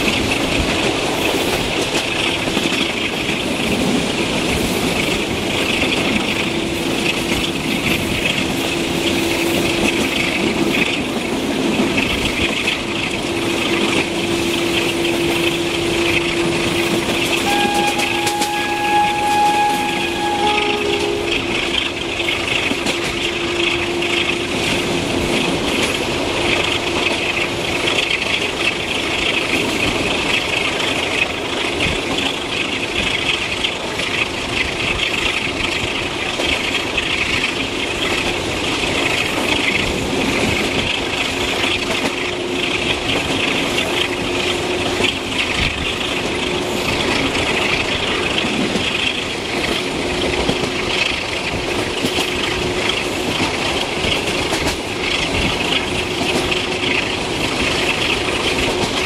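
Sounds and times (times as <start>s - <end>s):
train wheel and track noise: 0.0s - 59.0s.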